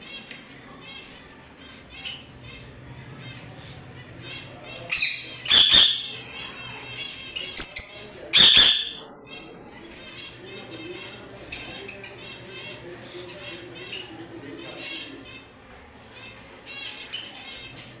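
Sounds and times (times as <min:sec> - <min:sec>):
lovebirds chattering high chirps: 0:00.0 - 0:18.0.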